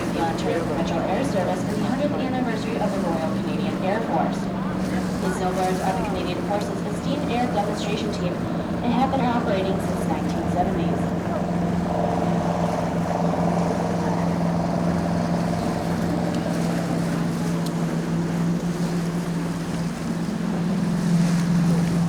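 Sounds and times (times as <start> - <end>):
boat engine drone: 0.0 - 22.0.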